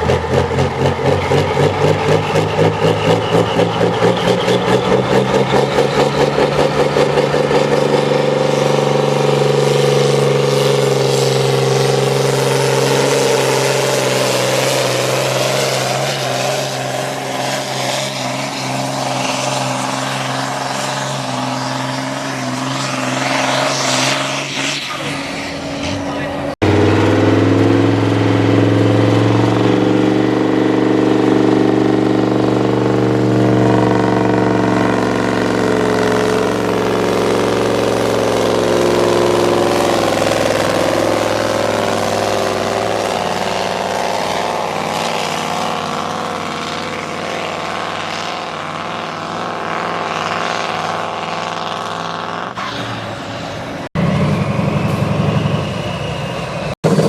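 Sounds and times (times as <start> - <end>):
tractor engine running hard: 0.0 - 24.0, 26.1 - 57.0
loud engine: 0.0 - 57.0.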